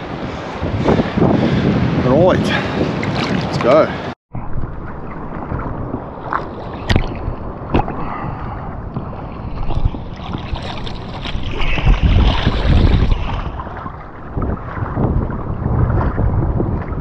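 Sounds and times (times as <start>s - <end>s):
water sloshing and splashing: 2.6s - 17.0s.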